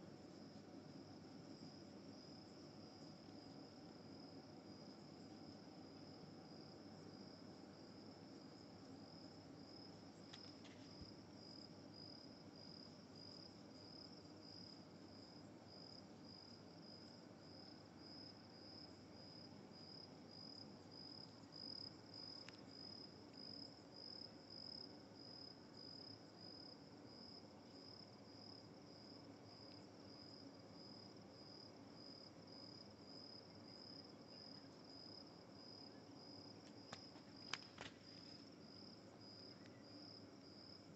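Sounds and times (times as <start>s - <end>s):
cricket trilling: 0.4s - 40.9s.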